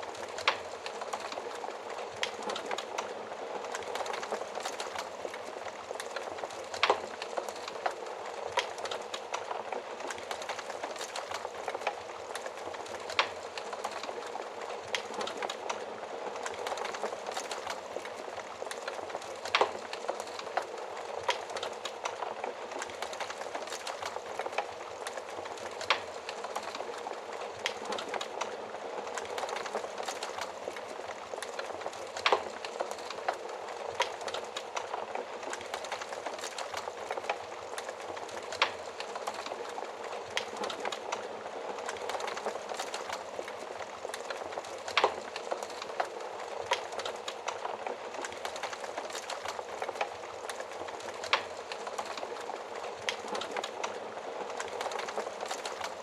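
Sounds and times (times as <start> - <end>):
wood fire hissing and crackling: 0.0 - 56.0.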